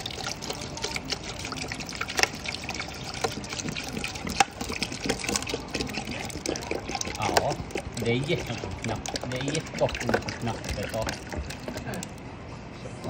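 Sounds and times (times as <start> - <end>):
water pouring and splashing: 0.0 - 12.2.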